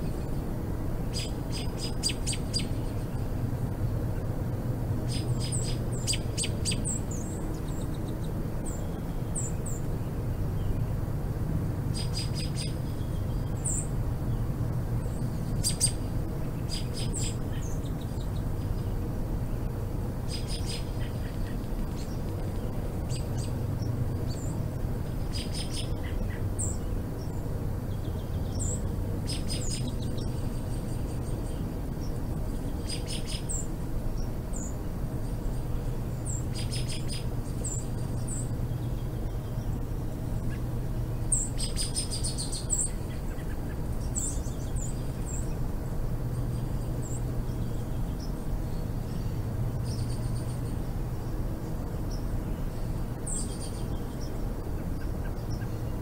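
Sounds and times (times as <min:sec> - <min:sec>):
low background hum: 0:00.0 - 0:56.0
small birds chirping: 0:00.0 - 0:56.0.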